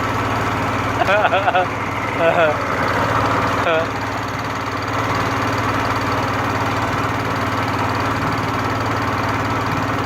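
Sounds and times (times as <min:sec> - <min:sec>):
small boat engine running: 0:00.0 - 0:10.0.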